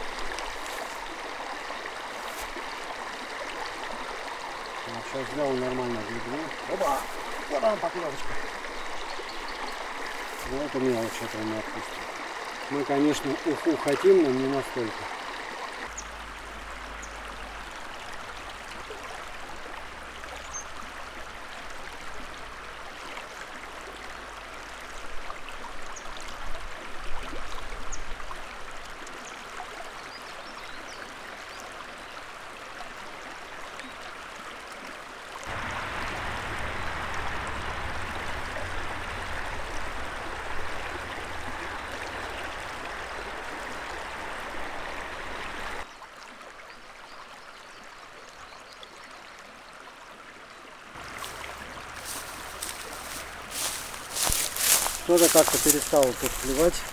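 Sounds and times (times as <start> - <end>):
fast-flowing river: 0.0 - 56.9.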